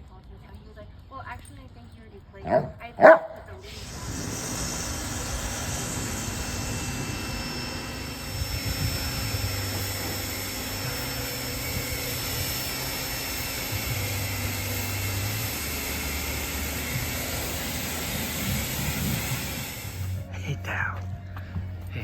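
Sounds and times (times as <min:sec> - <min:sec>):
low wavering hum: 0:02.5 - 0:22.0
steady mechanical roar: 0:02.5 - 0:22.0.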